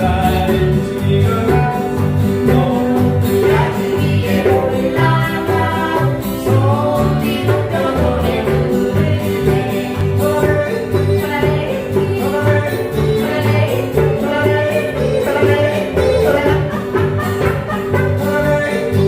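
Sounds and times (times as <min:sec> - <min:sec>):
person singing: 0:00.0 - 0:19.0
plucked strings: 0:00.0 - 0:19.0.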